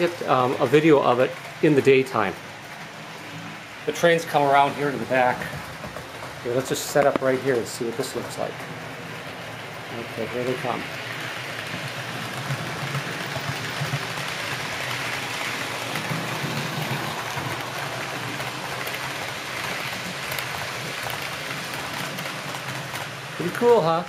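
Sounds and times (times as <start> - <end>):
model train wheels rumbling: 0.0 - 24.0.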